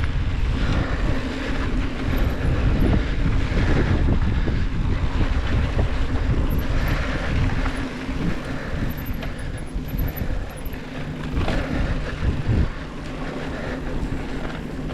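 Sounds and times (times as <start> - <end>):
bike tyre rumble and rattling: 0.0 - 14.9
wind buffeting microphone: 0.0 - 14.9.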